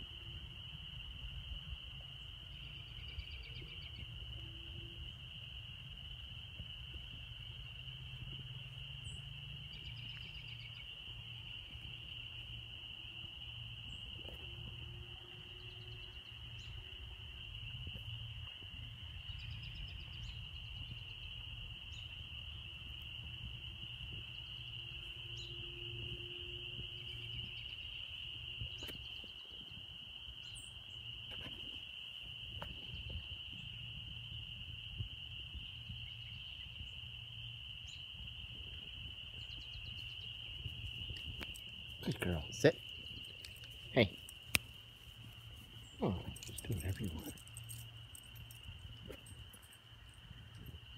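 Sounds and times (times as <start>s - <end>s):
crickets trilling: 0.0s - 50.9s.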